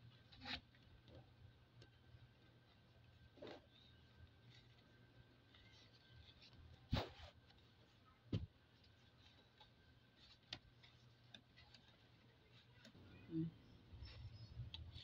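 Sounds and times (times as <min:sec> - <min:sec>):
faint handling noise: 0:00.0 - 0:15.0.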